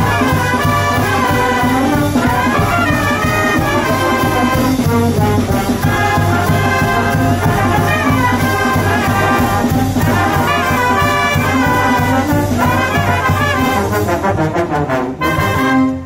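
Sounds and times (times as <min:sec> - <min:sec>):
brass ensemble playing swing: 0:00.0 - 0:16.0.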